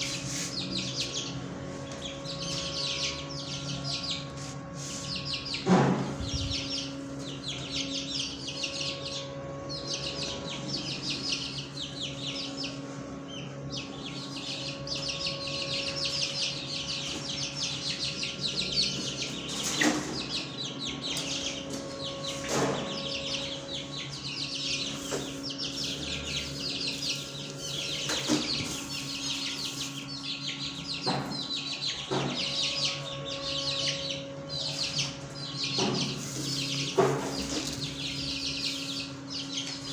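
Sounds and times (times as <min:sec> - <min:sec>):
small birds chirping and twittering: 0:00.0 - 0:39.9
steady low hum: 0:00.0 - 0:39.9.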